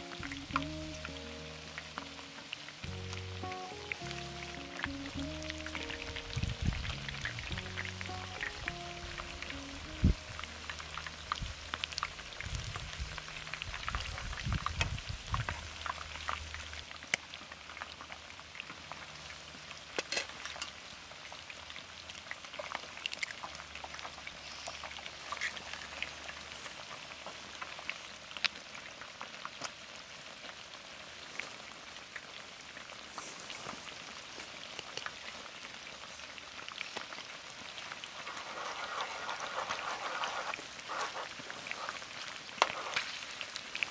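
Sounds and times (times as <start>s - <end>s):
food frying with crackles: 0.0s - 43.9s.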